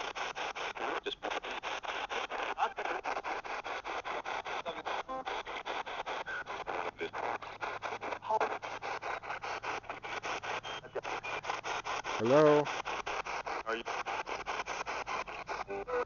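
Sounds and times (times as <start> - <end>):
choppy radio static bursts: 0.0 - 16.0
radio broadcast fragments: 0.0 - 16.0.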